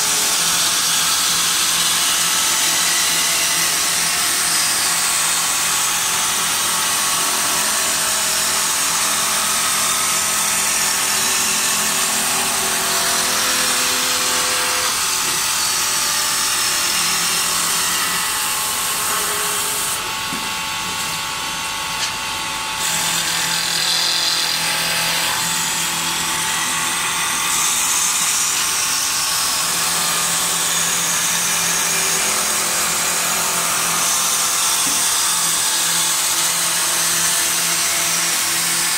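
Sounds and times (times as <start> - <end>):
wood-turning lathes whirring: 0.0 - 38.9.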